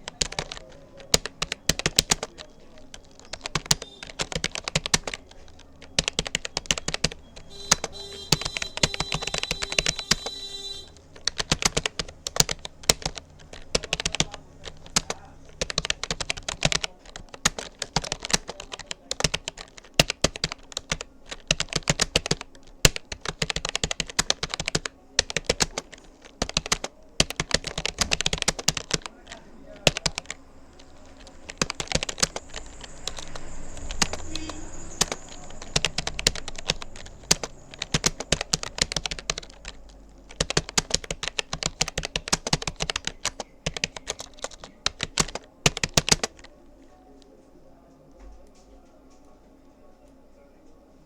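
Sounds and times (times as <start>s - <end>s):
keyboard typing clicks: 0.0s - 46.6s.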